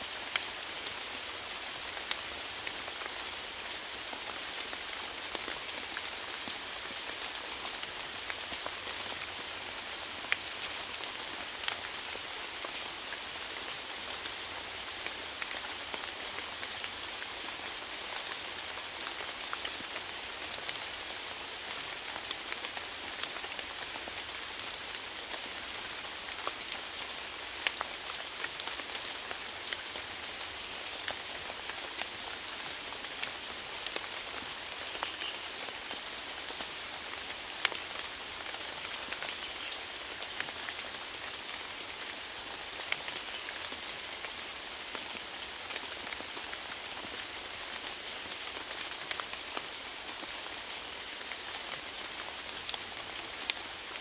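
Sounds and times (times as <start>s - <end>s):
rain falling: 0.0s - 54.0s
raindrops ticking on a surface: 0.1s - 54.0s.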